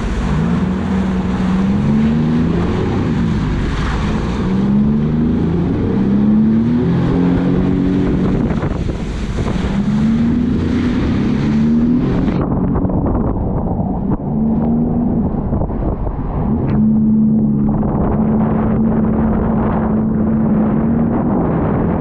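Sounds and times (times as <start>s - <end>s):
jet ski engine running: 0.0s - 22.0s
rush of wind and spray: 0.0s - 22.0s.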